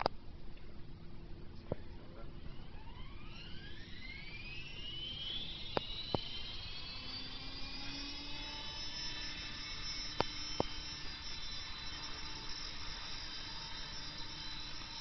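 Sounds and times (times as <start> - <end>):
rc helicopter motor whining: 2.3 - 15.0.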